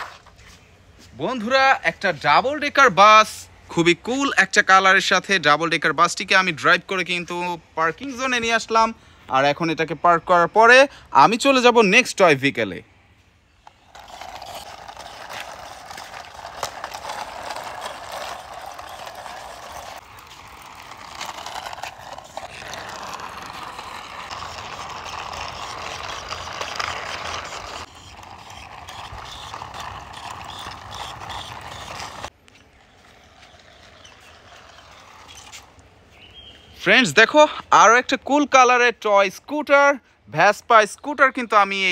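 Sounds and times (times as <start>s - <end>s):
plastic wheels rolling on concrete: 0.0s - 9.0s, 13.2s - 40.0s.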